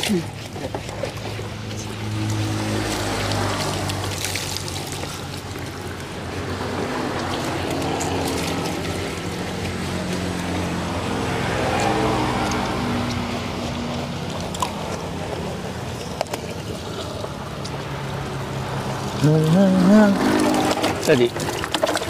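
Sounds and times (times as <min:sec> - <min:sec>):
water pouring and splashing: 0:00.0 - 0:22.0.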